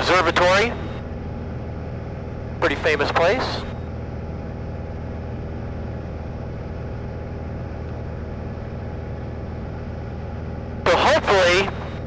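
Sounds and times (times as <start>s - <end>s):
aircraft propeller engine droning: 0.0s - 12.0s.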